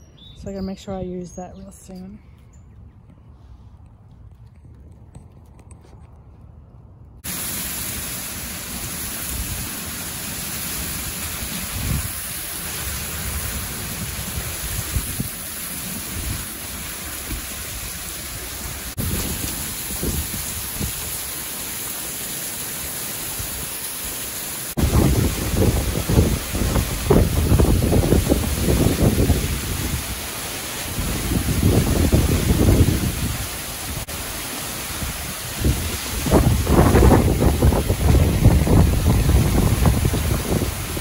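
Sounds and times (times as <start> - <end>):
heavy rain pouring: 7.2 - 41.0.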